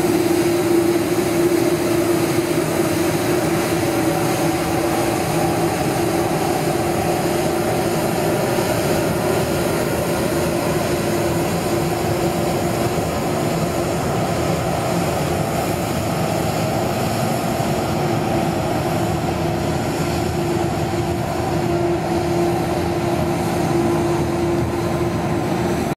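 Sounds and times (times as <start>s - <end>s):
constant whining tone: 0.0s - 25.9s
street sweeper engine humming: 0.0s - 25.9s.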